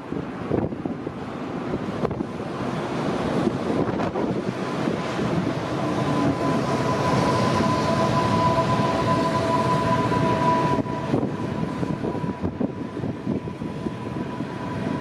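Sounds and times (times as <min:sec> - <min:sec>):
electric train rumble: 0:00.0 - 0:15.0
wind on microphone: 0:00.0 - 0:15.0.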